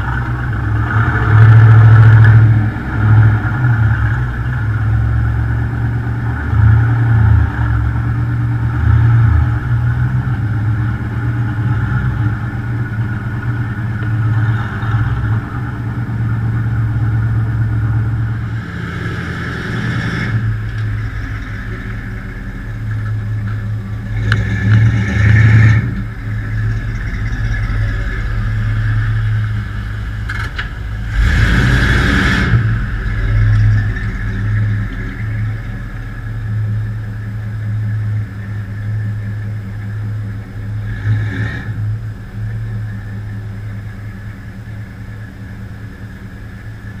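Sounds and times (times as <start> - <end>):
vehicle engine running and surging: 0.0 - 47.0.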